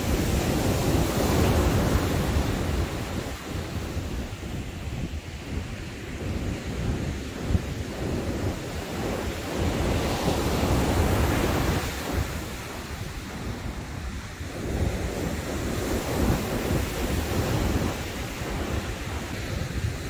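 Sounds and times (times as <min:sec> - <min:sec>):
ocean surf breaking on beach: 0:00.0 - 0:20.0
wind buffeting microphone: 0:00.0 - 0:20.0.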